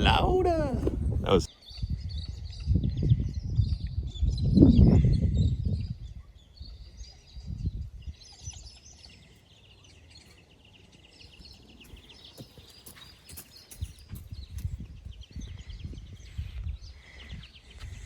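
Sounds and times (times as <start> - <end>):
wild birds calling: 0.0 - 3.4, 4.8 - 18.0.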